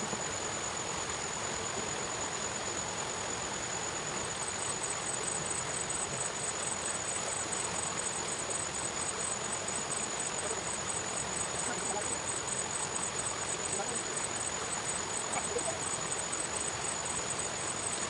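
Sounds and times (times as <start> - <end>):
insects chirping: 0.0 - 18.0
steady hiss: 0.0 - 18.0.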